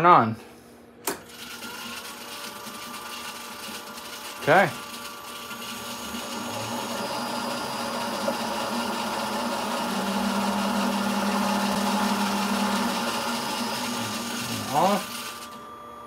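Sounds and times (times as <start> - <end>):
milling machine motor hum: 1.0 - 16.0.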